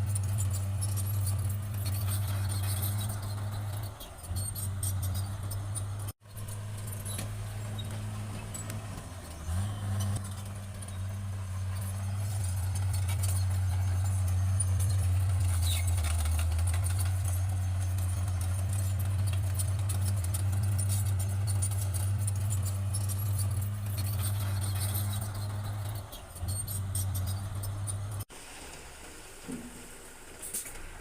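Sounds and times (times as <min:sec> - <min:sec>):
rapid clicking and clanking: 0:00.0 - 0:28.3
bulldozer diesel engine droning: 0:00.0 - 0:31.0.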